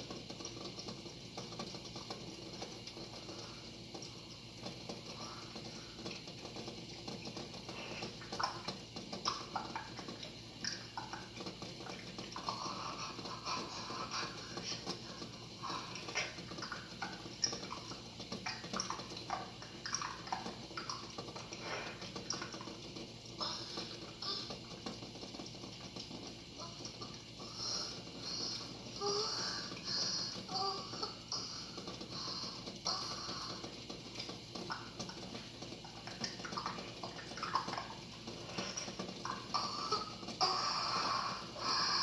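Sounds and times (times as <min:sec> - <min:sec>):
eggs rattling in boiling pot: 0:00.0 - 0:42.0
low steady hiss: 0:00.0 - 0:42.0.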